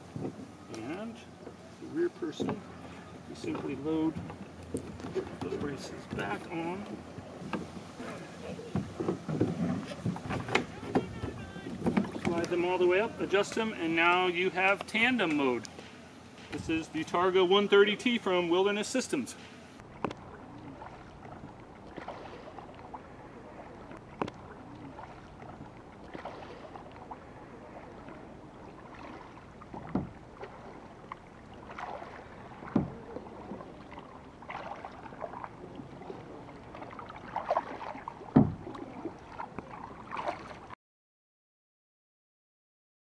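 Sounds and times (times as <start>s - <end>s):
faint outdoor wash: 0.0s - 40.8s
paddle splashing in water: 0.0s - 40.8s.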